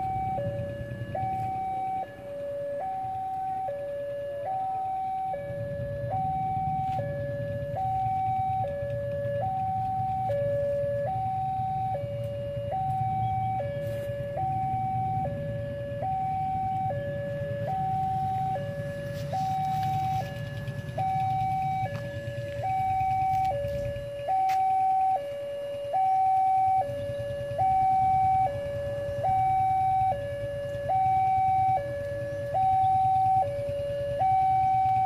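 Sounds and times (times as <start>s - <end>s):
two-tone level crossing alarm: 0.0s - 35.0s.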